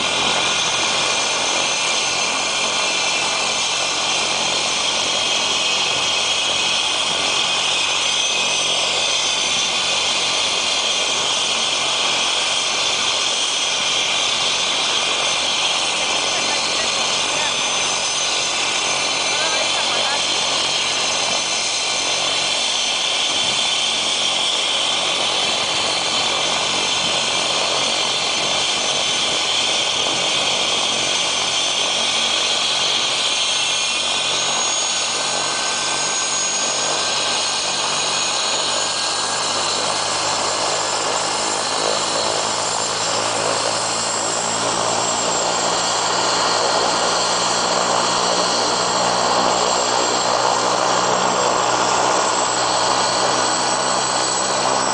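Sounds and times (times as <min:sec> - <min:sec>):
helicopter engine and rotor: 0:00.0 - 0:54.9.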